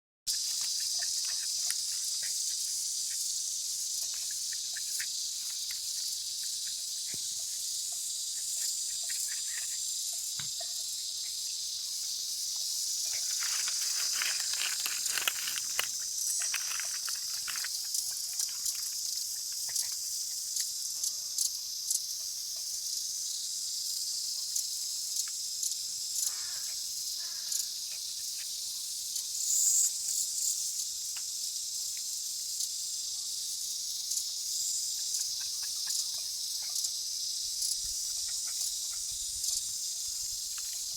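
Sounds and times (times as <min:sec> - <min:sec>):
cicadas buzzing: 0:00.3 - 0:40.9.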